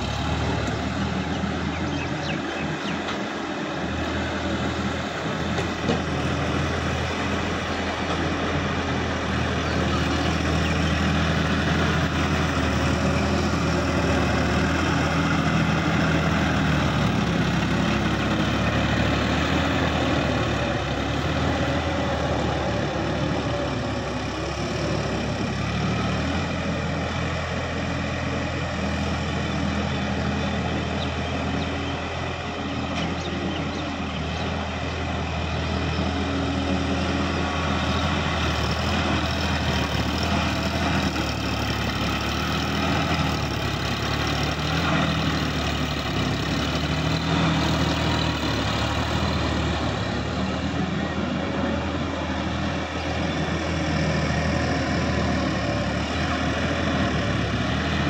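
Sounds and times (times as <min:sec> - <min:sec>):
tiller churning mud and water: 0:00.0 - 0:58.0
tractor diesel engine running: 0:00.0 - 0:58.0.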